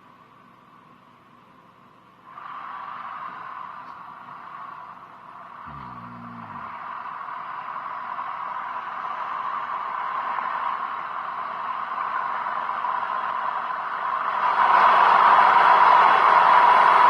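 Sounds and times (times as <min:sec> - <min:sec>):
train sound effect rushing: 0:02.3 - 0:17.0.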